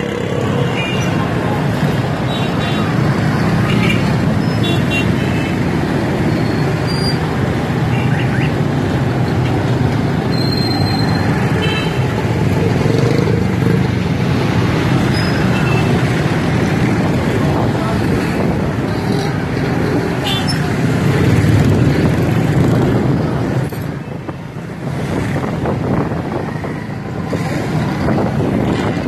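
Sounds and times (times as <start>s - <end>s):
engine and road noise rumble: 0.0s - 29.0s.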